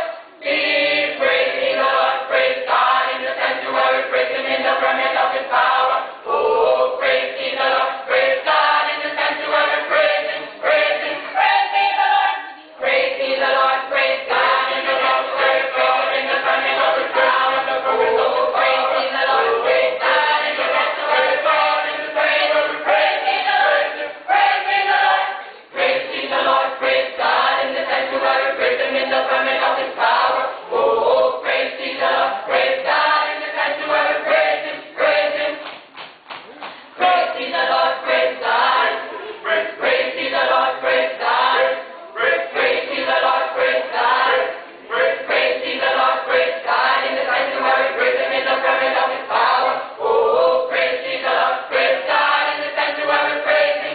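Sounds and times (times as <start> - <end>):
choir singing: 0.0 - 35.6, 36.9 - 53.9.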